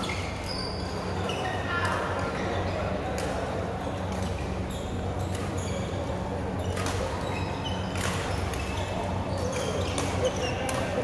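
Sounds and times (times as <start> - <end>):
sneakers squeaking on court: 0.0 - 1.7, 3.8 - 11.0.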